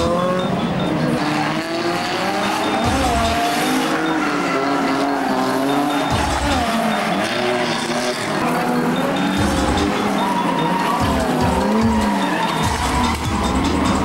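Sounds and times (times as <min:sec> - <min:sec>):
car engines revving: 0:00.0 - 0:14.0
tyres squealing: 0:00.0 - 0:14.0.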